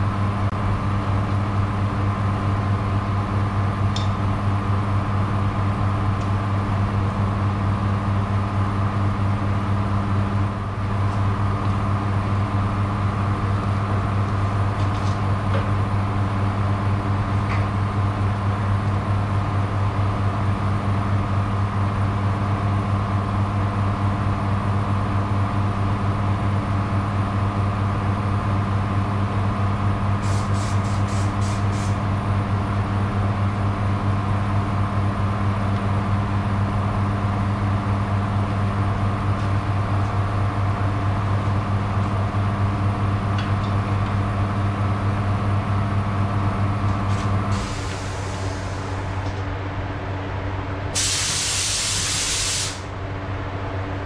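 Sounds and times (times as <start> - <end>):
low machine hum: 0.0 - 51.0, 52.8 - 54.0.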